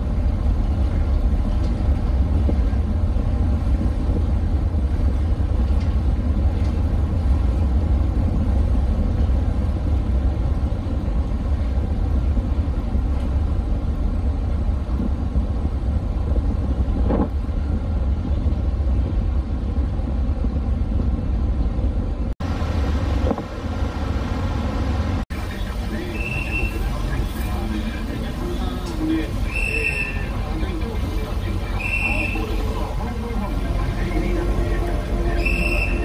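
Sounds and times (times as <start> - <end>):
ship engines low rumble: 0.0 - 36.0.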